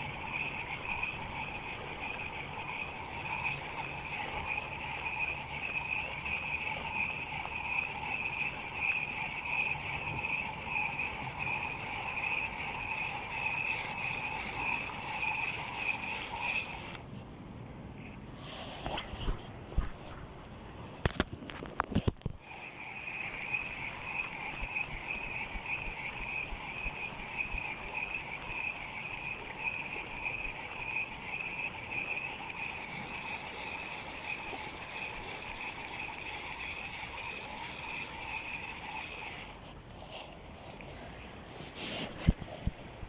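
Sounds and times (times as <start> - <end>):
fishing reel whirring: 0.0 - 17.0, 18.1 - 43.0.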